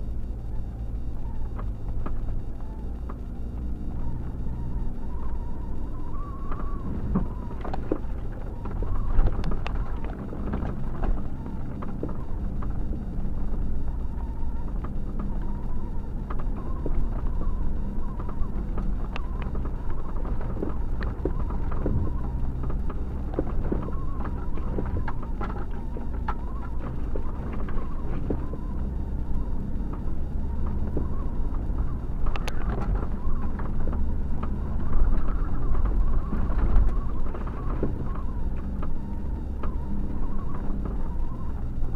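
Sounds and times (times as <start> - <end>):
car engine and tyre drone: 0.0 - 41.9.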